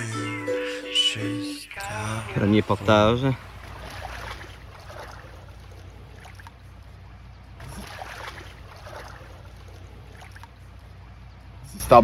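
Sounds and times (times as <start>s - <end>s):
paddle splashing in water: 1.8s - 12.0s.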